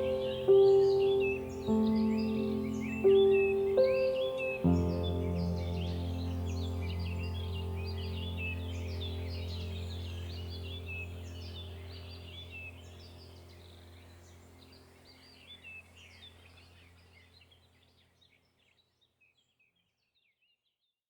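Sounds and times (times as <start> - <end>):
low steady hum: 0.0 - 17.9
small birds chirping: 0.0 - 20.9.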